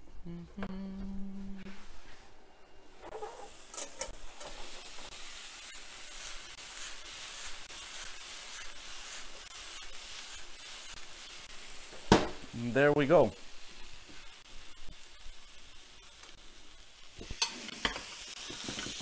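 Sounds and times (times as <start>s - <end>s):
vegetables sizzling in a pan: 3.0s - 19.0s.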